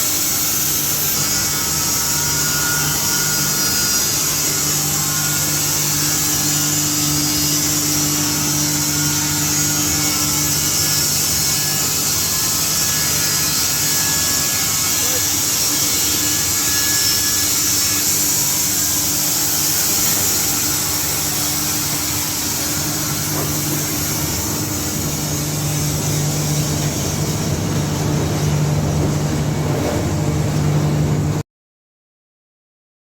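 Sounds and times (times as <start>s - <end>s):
saw blade hissing through boards: 0.0s - 27.5s
sawmill motor hum: 0.0s - 31.4s.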